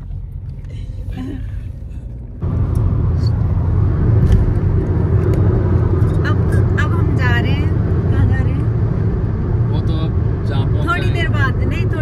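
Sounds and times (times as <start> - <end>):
road vehicle rumbling: 0.0 - 12.0.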